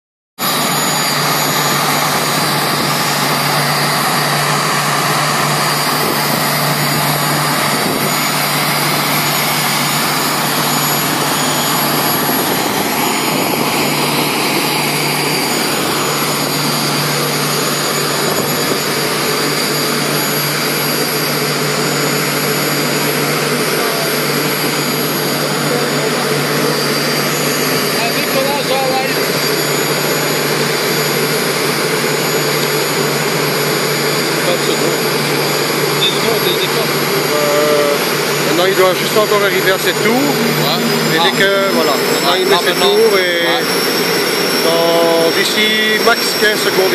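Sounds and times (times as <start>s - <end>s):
helicopter turbine whine: 0.4s - 46.9s.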